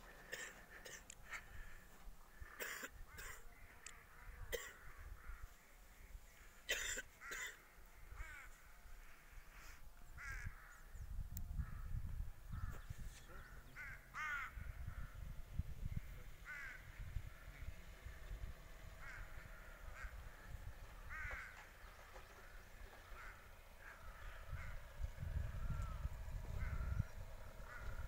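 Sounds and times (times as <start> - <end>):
low uneven rumble: 0.0 - 28.0
harsh caws: 0.2 - 6.1, 6.7 - 10.9, 11.6 - 15.2, 16.4 - 18.2, 19.0 - 28.0.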